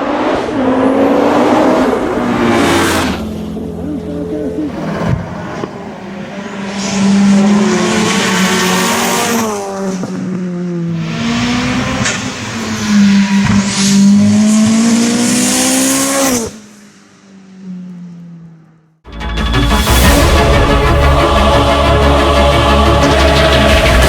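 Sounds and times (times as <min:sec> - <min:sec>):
rally car engine revving: 0:00.0 - 0:16.8, 0:19.9 - 0:24.0.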